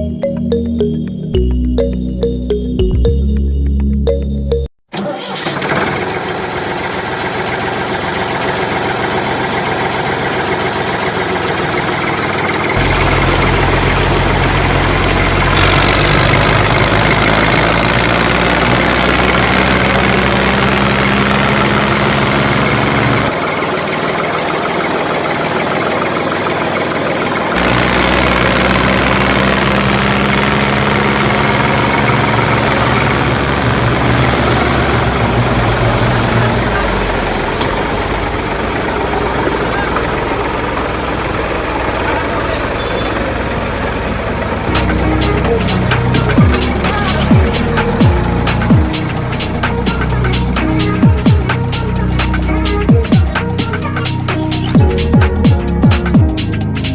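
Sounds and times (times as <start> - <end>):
diesel engine knocking idle: 5.9 - 56.9.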